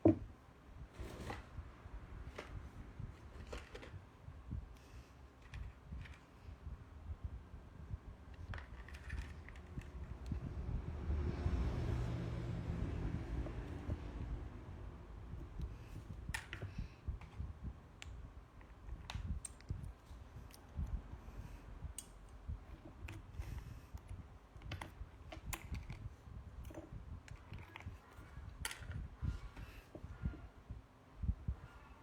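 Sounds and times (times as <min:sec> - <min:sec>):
low steady rumble: 0:00.2 - 0:32.0.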